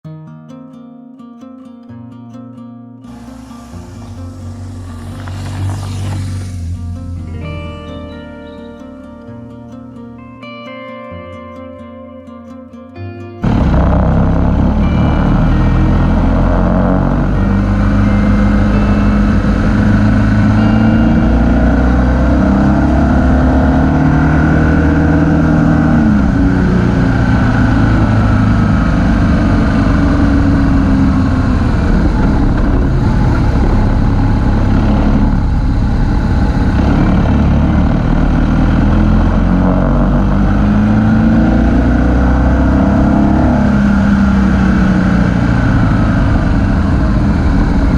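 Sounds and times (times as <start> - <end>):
motorcycle engine revving: 3.1 - 10.2, 13.4 - 47.9
road and wind noise: 3.1 - 10.2, 13.4 - 47.9.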